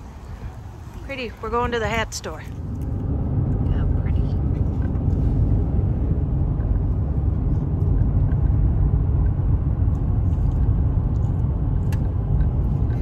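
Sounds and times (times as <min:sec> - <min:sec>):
road and engine rumble in cabin: 0:00.0 - 0:13.0.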